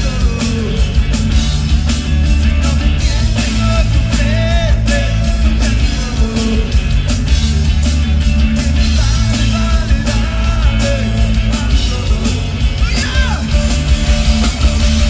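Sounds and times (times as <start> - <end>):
drum hits and cymbal crashes: 0.0 - 15.0
live rock band playing: 0.0 - 15.0.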